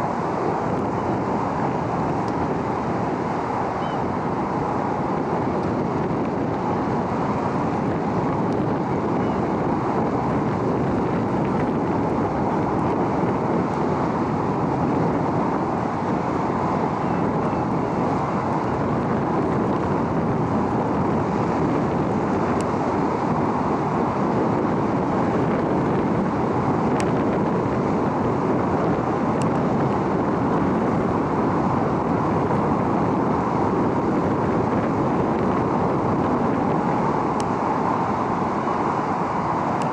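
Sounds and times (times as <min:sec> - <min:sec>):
ferry machinery drone: 0:00.0 - 0:39.9.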